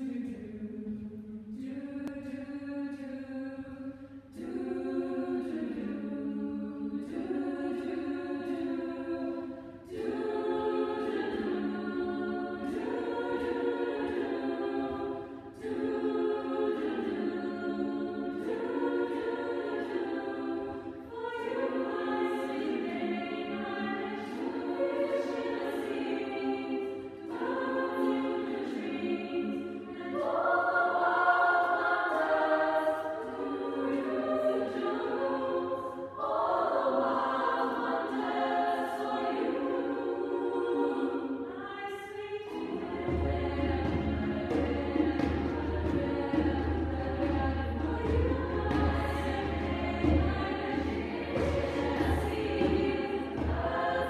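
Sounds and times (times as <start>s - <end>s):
girls' choir singing in harmony: 0.0s - 54.0s.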